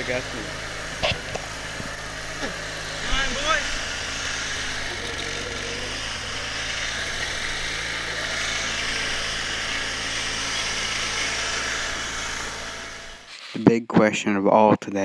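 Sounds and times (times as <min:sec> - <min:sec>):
lawn mower engine idling: 0:00.0 - 0:13.7.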